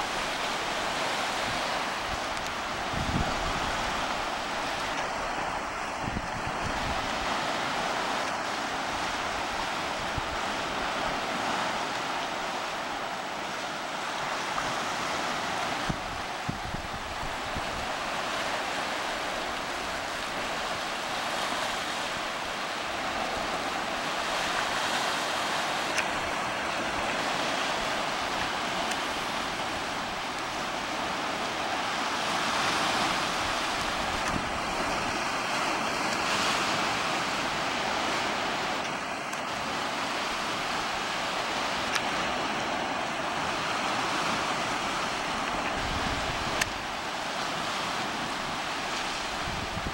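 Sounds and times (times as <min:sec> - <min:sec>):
sea waves washing against rocks: 0:00.0 - 0:49.9.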